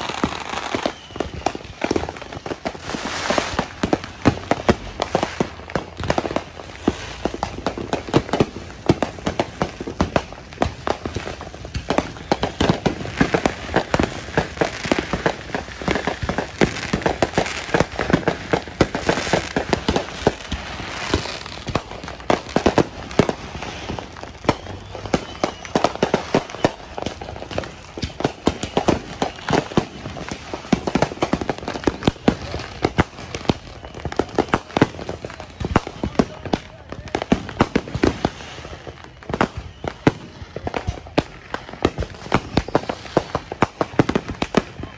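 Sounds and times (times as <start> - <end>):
fireworks bangs and pops: 0.0 - 44.9.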